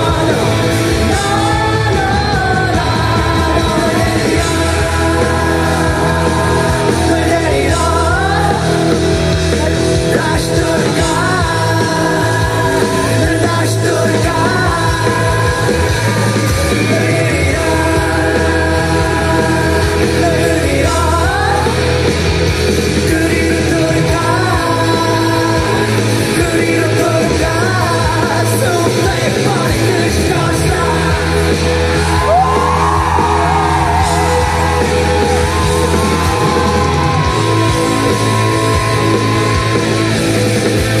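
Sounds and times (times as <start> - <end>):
man singing into microphone: 0.0 - 39.8
electric guitar: 0.0 - 41.0.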